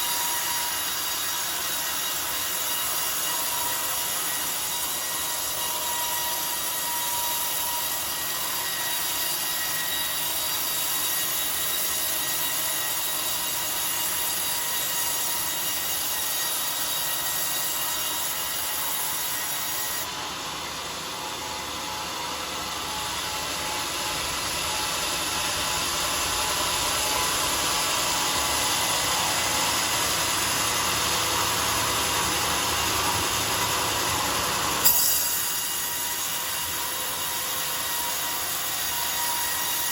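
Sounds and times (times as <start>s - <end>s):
circular saw cutting log: 0.0s - 39.9s.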